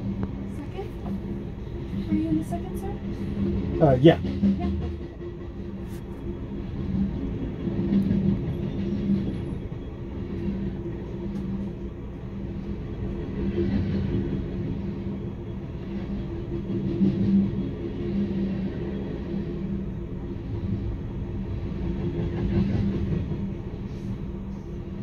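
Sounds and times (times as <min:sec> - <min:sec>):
rail cars rumbling on track: 0:00.0 - 0:25.0.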